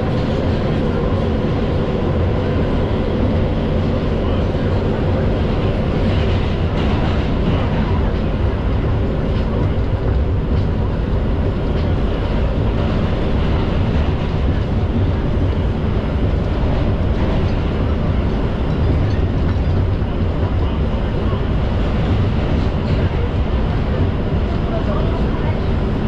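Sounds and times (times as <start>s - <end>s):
subway car rumble and rail noise: 0.0s - 26.0s.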